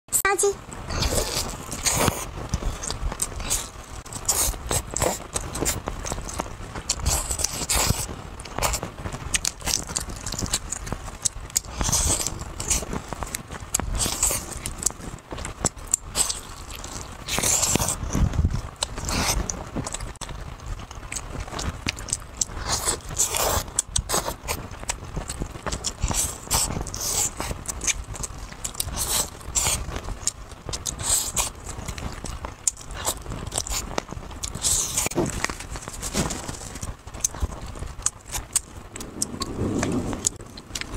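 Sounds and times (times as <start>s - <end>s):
biting and chewing meat: 0.9s - 40.9s.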